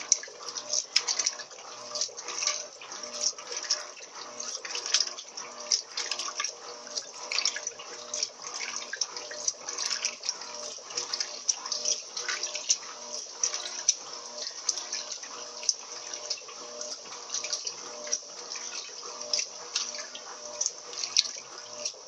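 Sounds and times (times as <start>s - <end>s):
washing machine hum: 0.0s - 22.0s
washing machine water sloshing: 0.0s - 22.0s.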